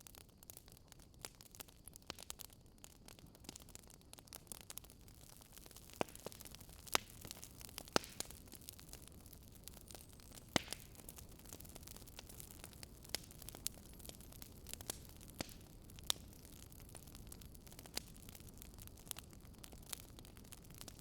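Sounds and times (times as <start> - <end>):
faint steady hiss: 0.0 - 21.0
wood fire crackling: 0.0 - 21.0.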